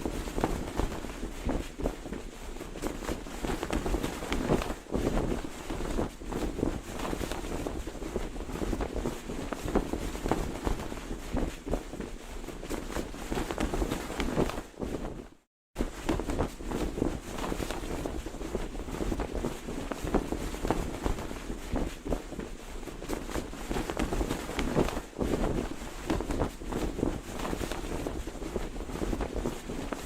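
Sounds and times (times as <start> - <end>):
cloth flag flapping: 0.0 - 30.0.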